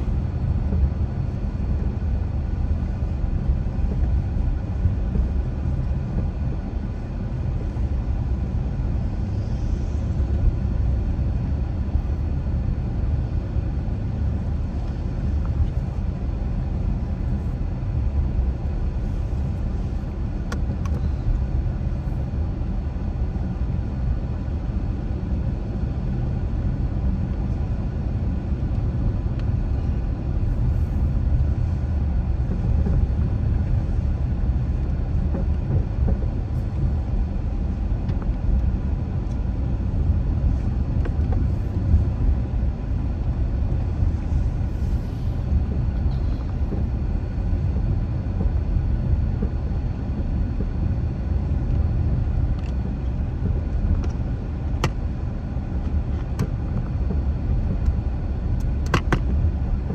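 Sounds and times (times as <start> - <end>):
car engine and tyre road noise: 0.0 - 59.9.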